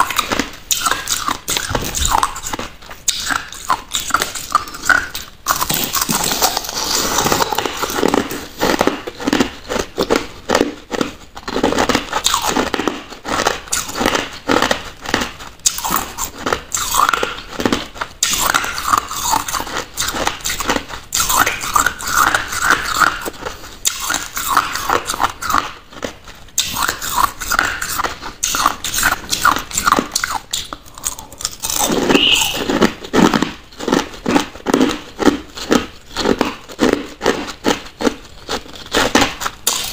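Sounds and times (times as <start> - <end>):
crunching ice between teeth: 0.0 - 39.9.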